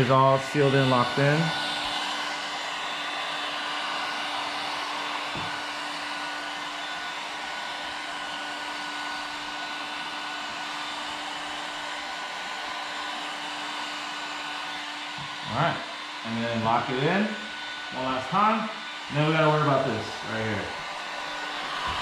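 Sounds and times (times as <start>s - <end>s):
heat gun blowing and humming: 0.0s - 22.0s.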